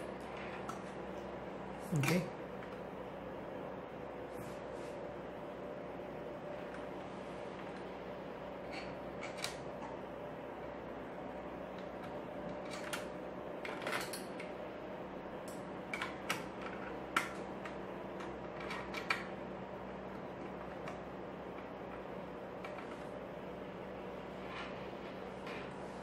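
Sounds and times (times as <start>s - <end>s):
background hum: 0.0s - 26.0s.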